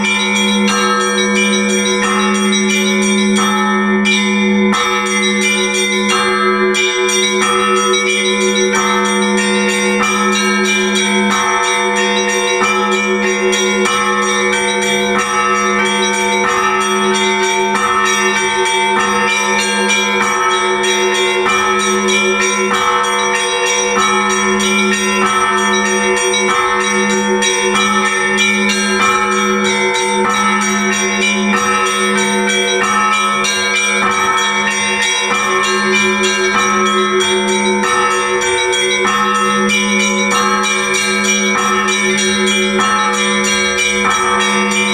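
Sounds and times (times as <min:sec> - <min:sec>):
deep bell humming: 0:00.0 - 0:44.9
small bells struck rhythmically: 0:00.0 - 0:44.9.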